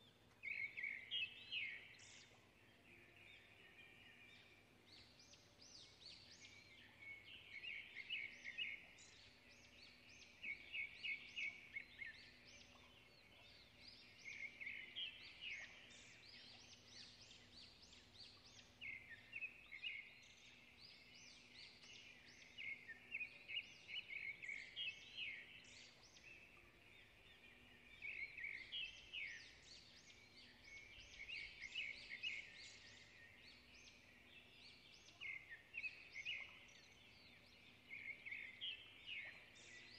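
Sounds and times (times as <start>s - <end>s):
faint bird song: 0.0s - 39.9s.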